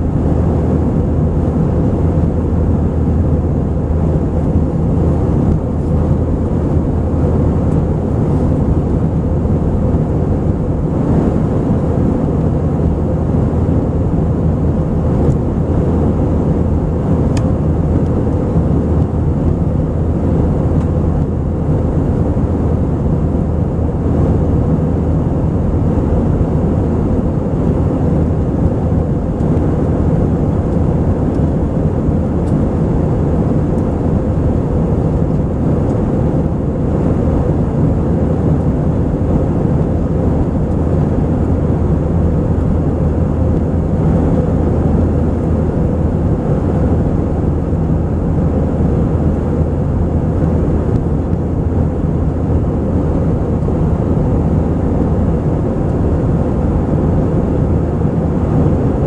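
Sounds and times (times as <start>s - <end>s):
jet engines roaring: 0.0s - 59.0s
low hum: 0.0s - 59.0s.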